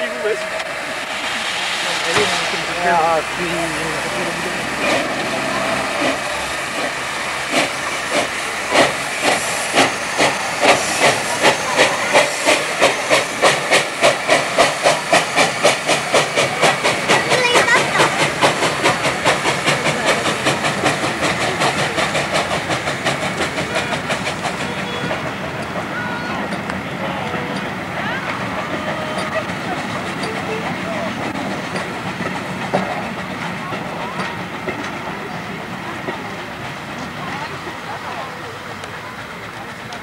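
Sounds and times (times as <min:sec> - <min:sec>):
locomotive exhaust chuffs: 0:00.0 - 0:40.0
steam hissing: 0:00.0 - 0:40.0.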